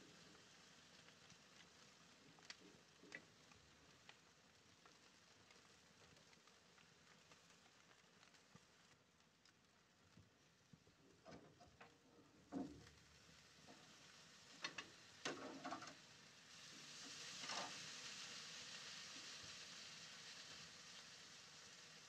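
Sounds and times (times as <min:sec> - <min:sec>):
ribs sizzling on grate: 0:00.0 - 0:22.0.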